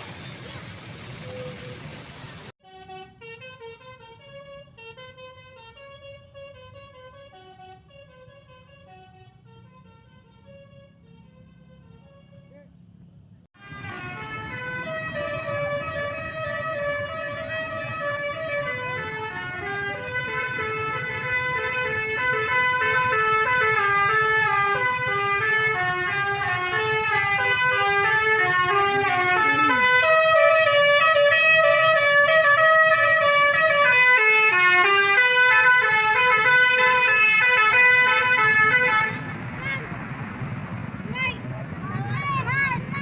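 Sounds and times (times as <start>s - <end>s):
multi-tone bus horn melody: 2.6s - 12.9s, 13.6s - 39.5s.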